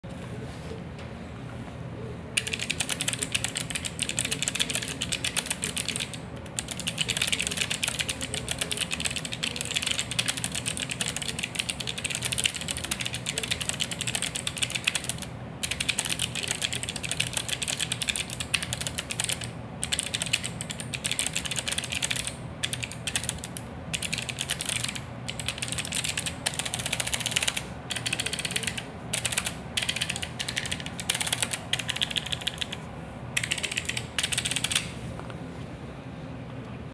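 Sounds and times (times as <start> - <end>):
typing on mechanical keyboard: 2.4 - 32.8, 33.4 - 34.9.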